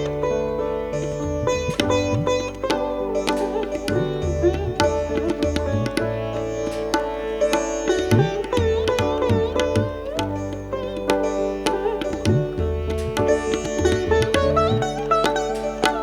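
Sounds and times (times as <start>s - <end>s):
plucked-string melody: 0.0s - 16.0s.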